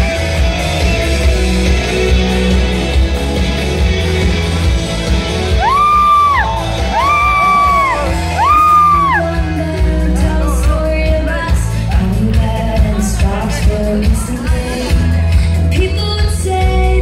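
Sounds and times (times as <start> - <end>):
pop music with heavy bass: 0.0 - 17.0.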